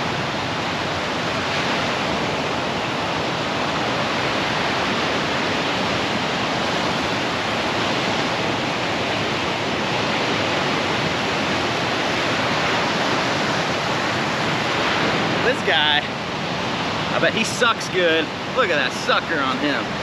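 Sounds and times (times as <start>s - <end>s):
surf breaking on beach: 0.0s - 20.0s.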